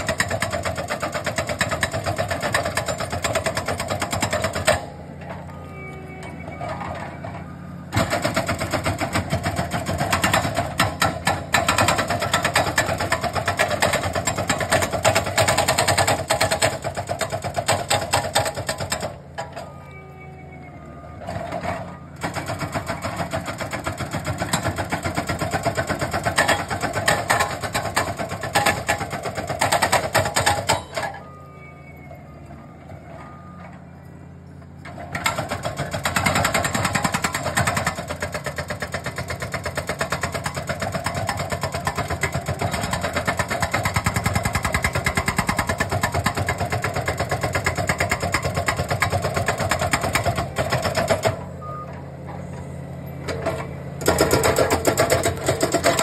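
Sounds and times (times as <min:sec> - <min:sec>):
hydraulic breaker hammering rock: 0:00.0 - 0:05.5, 0:07.9 - 0:19.6, 0:21.3 - 0:31.2, 0:34.8 - 0:51.6, 0:53.2 - 0:56.0
diesel engine running: 0:00.0 - 0:56.0.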